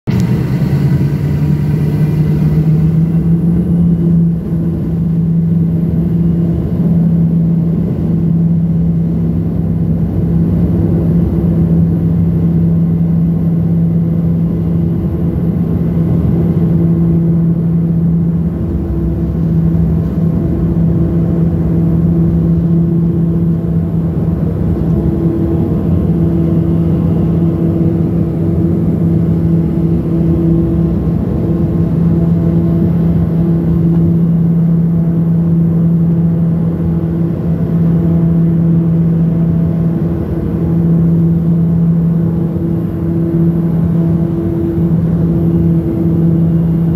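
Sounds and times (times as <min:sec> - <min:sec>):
turboprop engines droning: 0:00.0 - 0:46.9.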